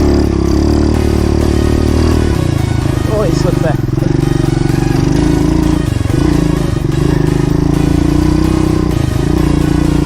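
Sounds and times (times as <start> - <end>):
pit bike engine running: 0.0 - 10.0.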